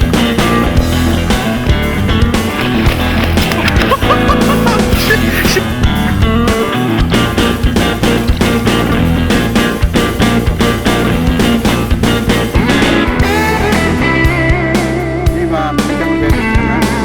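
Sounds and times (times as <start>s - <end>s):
bending lead electric guitar: 0.0s - 17.0s
steady drum beat: 0.0s - 17.0s.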